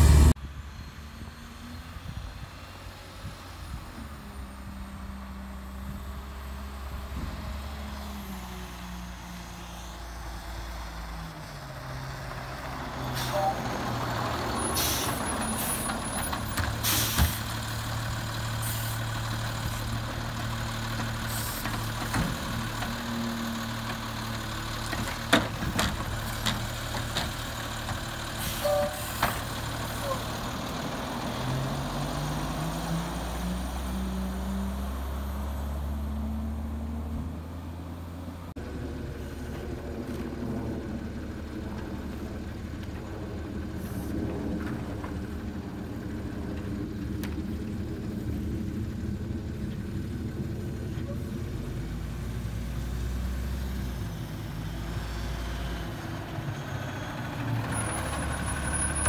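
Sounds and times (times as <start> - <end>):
garbage truck diesel engine: 0.0 - 59.0.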